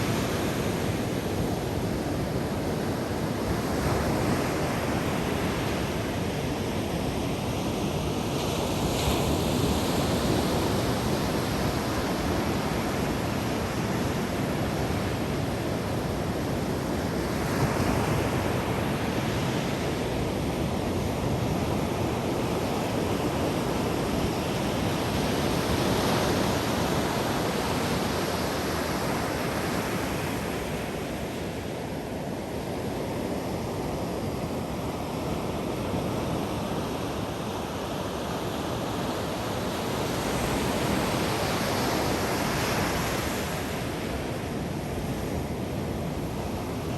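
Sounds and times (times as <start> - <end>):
ocean waves breaking on beach: 0.0 - 46.9.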